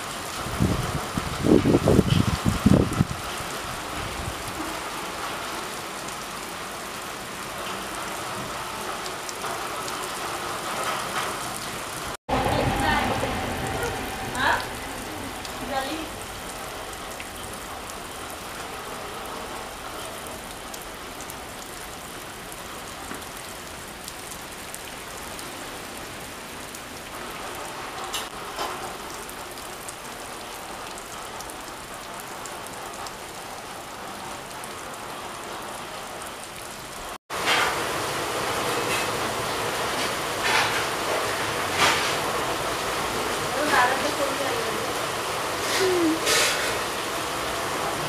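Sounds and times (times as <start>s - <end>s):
rain pattering on surfaces: 0.0s - 48.0s.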